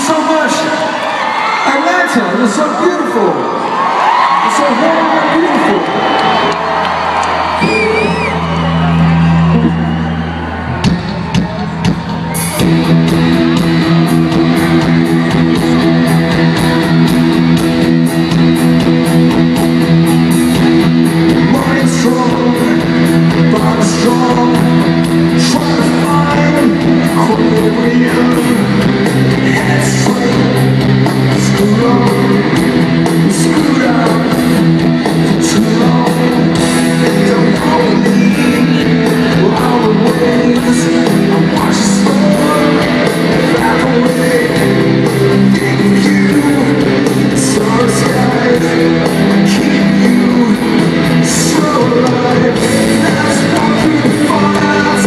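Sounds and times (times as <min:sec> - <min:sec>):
distorted electric guitars: 0:03.5 - 0:55.0
drum beat: 0:10.7 - 0:55.0.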